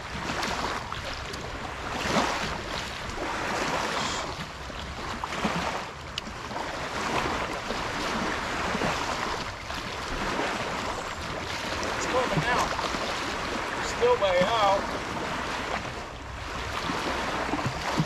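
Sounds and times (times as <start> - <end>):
small waves washing onto bank: 0.0 - 18.0
wind on the microphone: 0.0 - 18.0.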